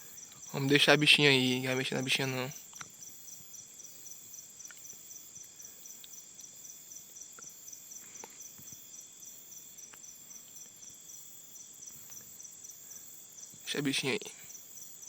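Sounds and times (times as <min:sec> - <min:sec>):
faint ticks: 0:00.0 - 0:00.6, 0:02.5 - 0:11.0, 0:11.8 - 0:15.0
insects chirring: 0:00.0 - 0:15.0.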